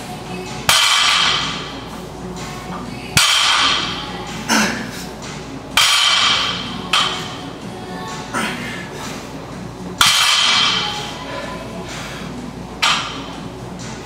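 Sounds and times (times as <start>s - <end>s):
music with vocals: 0.0s - 14.0s.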